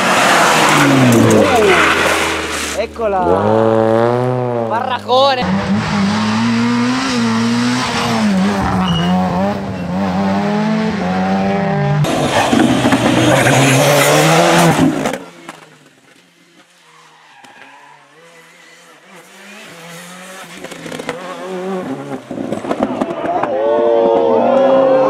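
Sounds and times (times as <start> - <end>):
rally car engine revving: 0.0 - 15.8, 17.9 - 25.0
tyres skidding: 0.0 - 23.9.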